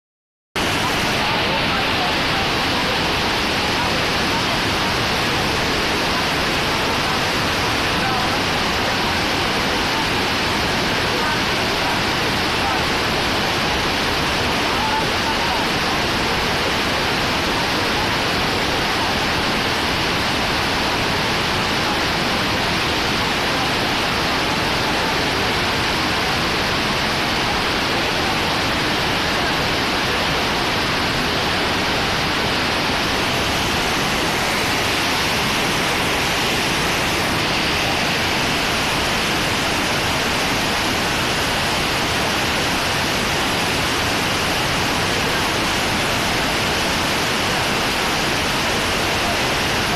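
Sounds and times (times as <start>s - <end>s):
river water rushing: 0.6s - 49.9s.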